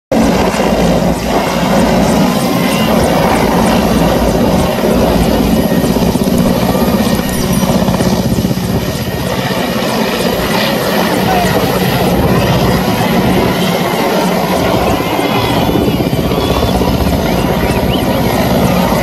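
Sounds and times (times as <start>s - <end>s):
helicopter rotor chopping: 0.1s - 19.0s.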